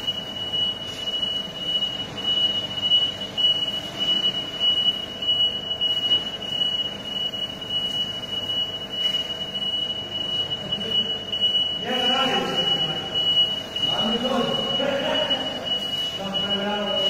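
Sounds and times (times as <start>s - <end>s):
high-pitched electronic warning tone: 0.0s - 17.0s
low hum of machinery: 0.0s - 17.0s.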